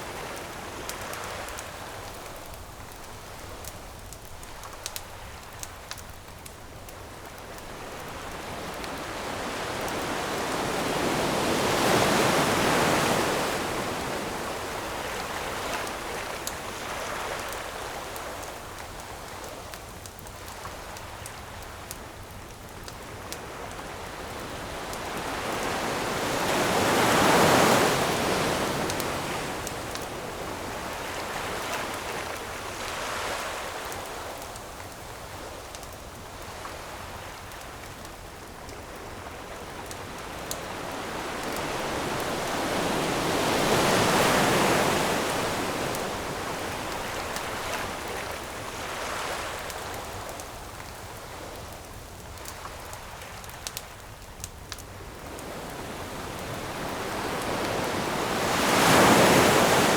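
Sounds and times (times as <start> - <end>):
campfire crackles: 0.0 - 59.9
ocean waves washing ashore: 0.0 - 59.9.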